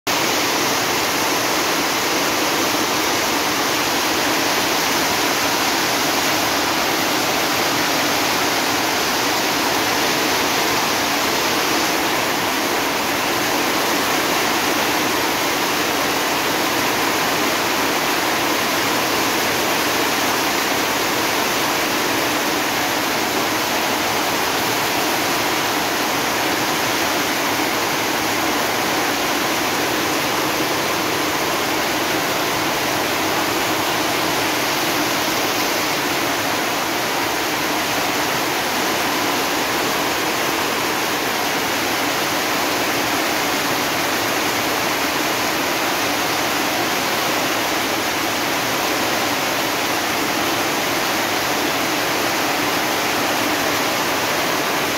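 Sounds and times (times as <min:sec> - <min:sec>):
torrential rain pouring: 0:00.1 - 0:54.9.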